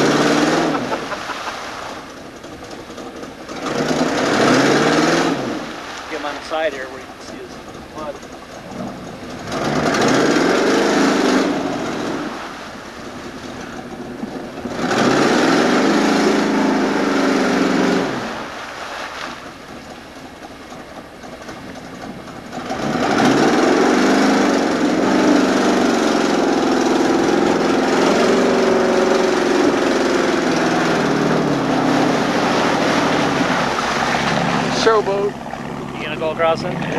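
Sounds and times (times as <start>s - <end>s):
truck engine revving: 0.0s - 18.6s, 21.3s - 36.9s
mud splashing: 0.0s - 36.9s.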